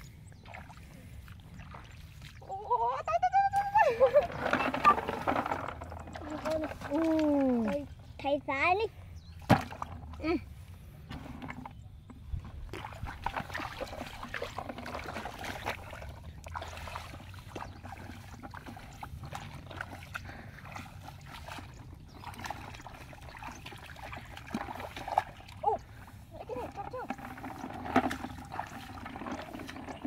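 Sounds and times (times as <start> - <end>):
bare feet splashing through mud: 0.0 - 2.7, 3.3 - 8.2, 9.3 - 11.6, 12.3 - 30.0.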